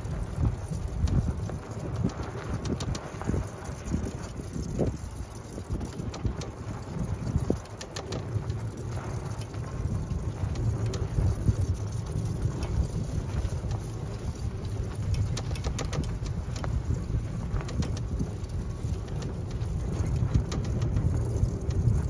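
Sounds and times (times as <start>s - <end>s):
crackles and ticks: 0.0s - 22.0s
vehicle rumbling on dirt track: 0.0s - 22.0s.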